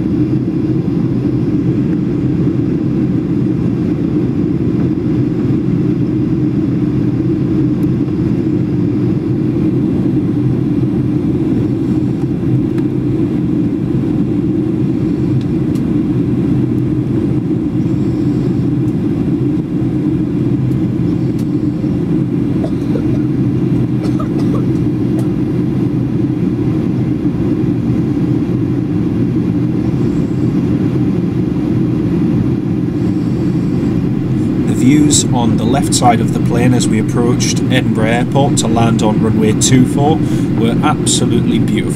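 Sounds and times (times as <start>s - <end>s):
airplane cabin drone: 0.0s - 41.9s.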